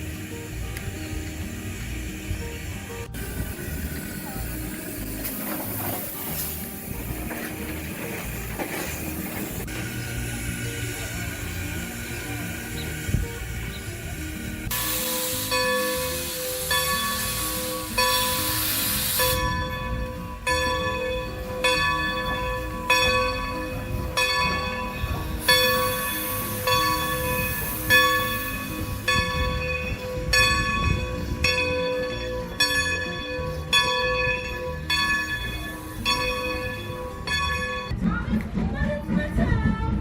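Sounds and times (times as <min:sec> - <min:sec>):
steam locomotive running: 0:00.0 - 0:40.0
steam locomotive bell ringing: 0:03.1 - 0:38.0.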